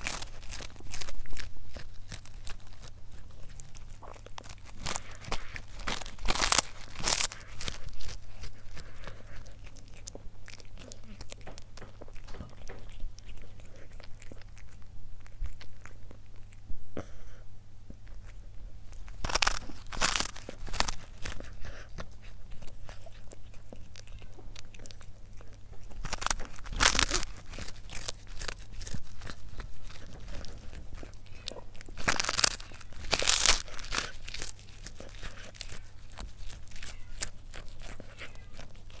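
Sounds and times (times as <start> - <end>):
cat crunching dried fish: 0.0 - 39.0.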